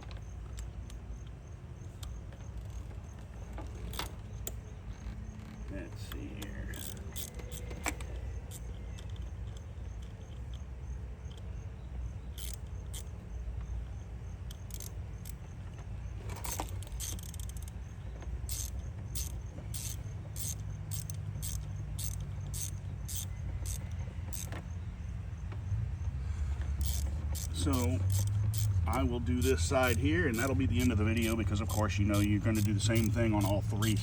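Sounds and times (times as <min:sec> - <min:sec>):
hand ratchet clicking: 0:00.0 - 0:24.7, 0:26.2 - 0:34.0.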